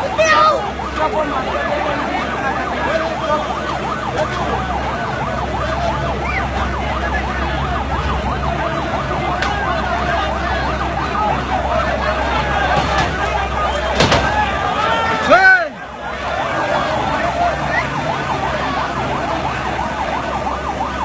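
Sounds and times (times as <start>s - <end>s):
emergency siren yelping: 0.0s - 21.0s
large crowd noise: 0.0s - 21.0s.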